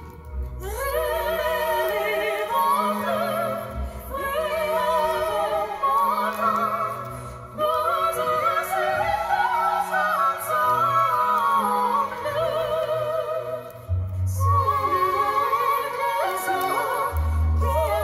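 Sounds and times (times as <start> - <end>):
operatic singing voice: 0.0 - 18.0.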